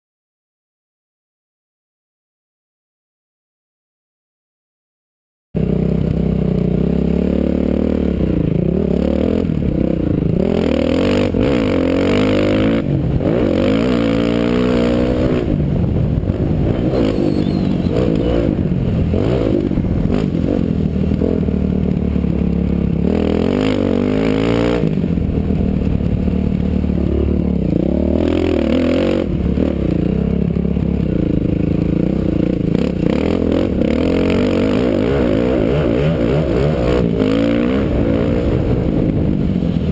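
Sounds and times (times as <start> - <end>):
dirt bike engine revving: 5.6 - 39.9.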